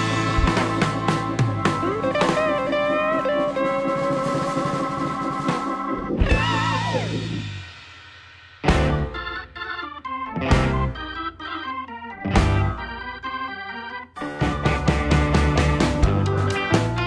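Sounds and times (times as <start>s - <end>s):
guitar and drums music: 0.0s - 13.3s, 14.1s - 17.0s.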